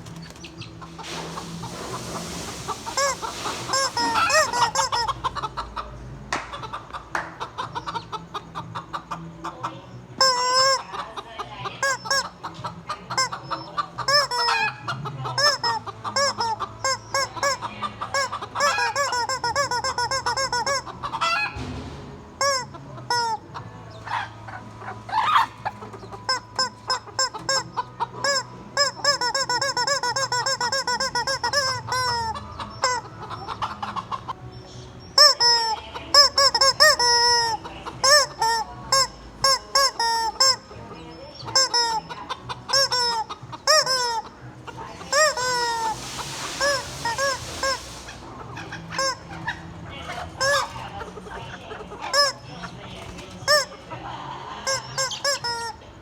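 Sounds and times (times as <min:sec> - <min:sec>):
chicken squawks: 0:00.0 - 0:21.8, 0:22.4 - 0:56.0
chickens clucking: 0:00.0 - 0:56.0.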